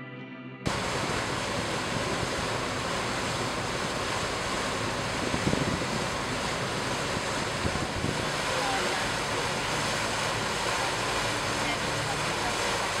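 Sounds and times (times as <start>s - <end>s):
wind buffeting microphone: 0.7s - 11.3s
wind and water rushing: 0.7s - 13.0s.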